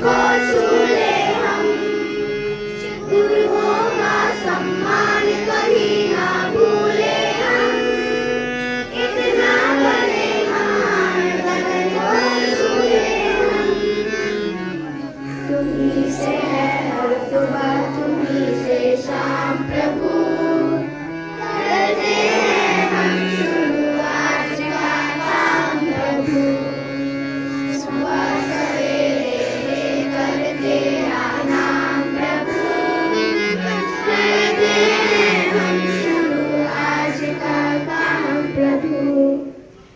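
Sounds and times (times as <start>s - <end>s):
held low chords: 0.0s - 39.8s
voices singing: 0.0s - 39.8s.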